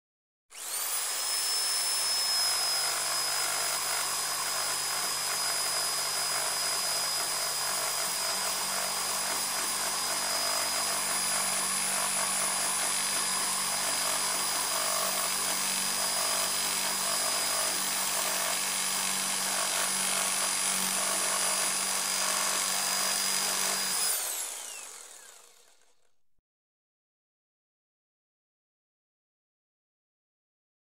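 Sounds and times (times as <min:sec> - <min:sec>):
electric jigsaw motor whine: 0:00.5 - 0:26.3.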